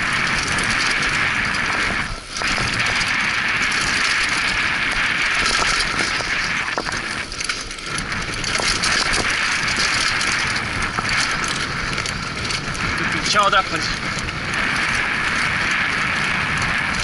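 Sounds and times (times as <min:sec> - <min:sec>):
bike rattles and clicks: 0:00.0 - 0:17.0
tyre and wind rush: 0:00.0 - 0:17.0.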